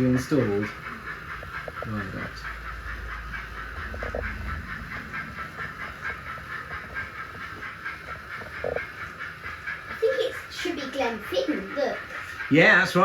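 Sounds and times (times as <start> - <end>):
model train steam chuff: 0.0 - 13.0
motor and wheels humming: 0.0 - 13.0.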